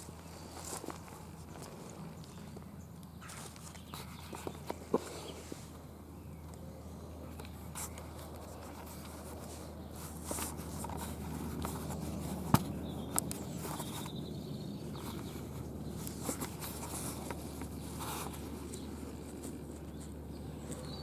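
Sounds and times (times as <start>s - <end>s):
animals chewing and rustling: 0.0s - 5.8s, 7.2s - 21.0s
steady low hum: 0.0s - 21.0s.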